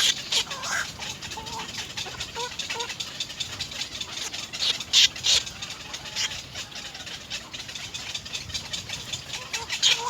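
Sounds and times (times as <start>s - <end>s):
nestling birds begging calls: 0.0s - 10.0s.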